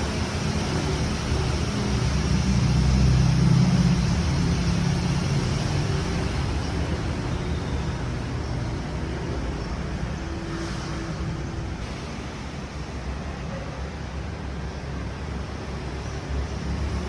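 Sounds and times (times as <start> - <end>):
engine and tyre rumble: 0.0 - 17.0
traffic hiss: 0.0 - 17.0.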